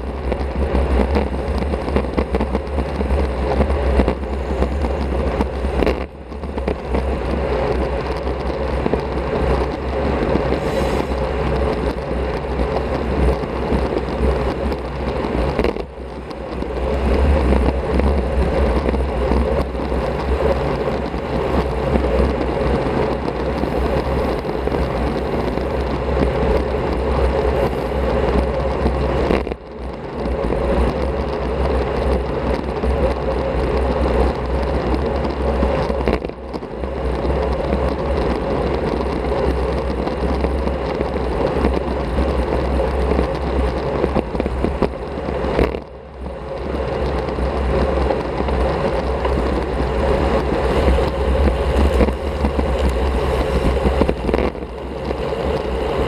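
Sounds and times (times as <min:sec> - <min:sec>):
tyre and road noise: 0:00.0 - 0:56.0
wind rushing over microphone: 0:00.0 - 0:56.0.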